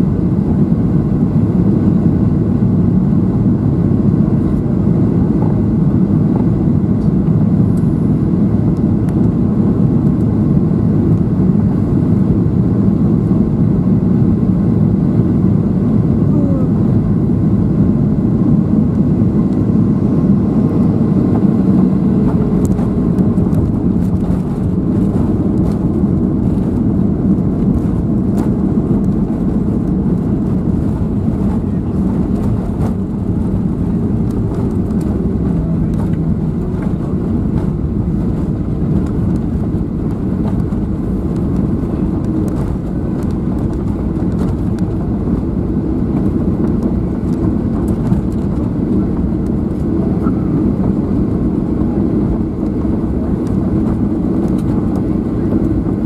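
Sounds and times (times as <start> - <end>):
engine and airflow rush in cabin: 0.0 - 56.0.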